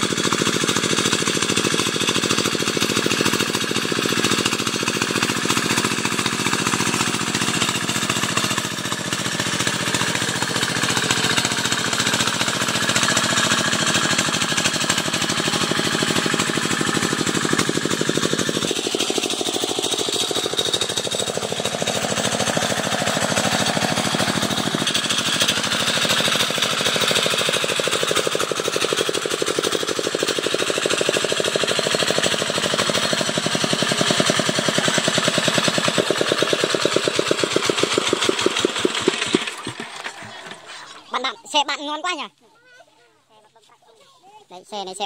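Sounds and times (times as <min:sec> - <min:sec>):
diesel tractor engine knocking: 0:00.0 - 0:40.7.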